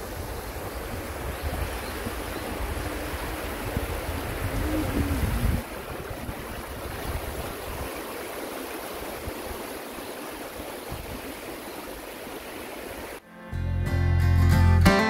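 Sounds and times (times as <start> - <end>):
stream water rushing over weir: 0.0 - 13.2.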